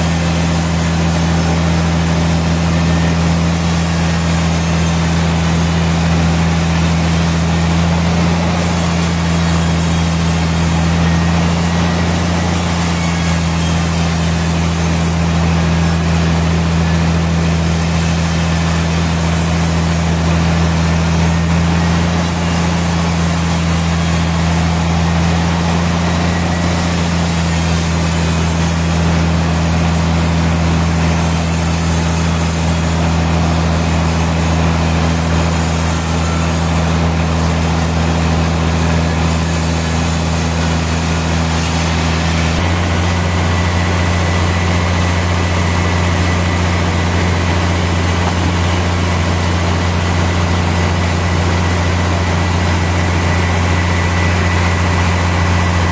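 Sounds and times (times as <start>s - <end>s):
sawmill machinery humming: 0.0s - 55.9s.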